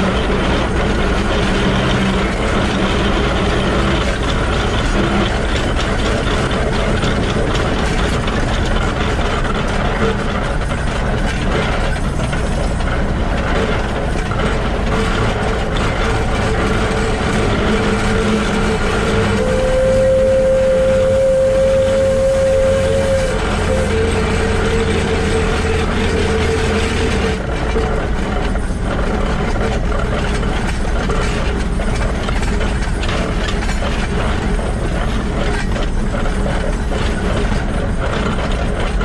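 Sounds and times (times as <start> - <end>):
locomotive gears and wheels clattering: 0.0 - 39.0.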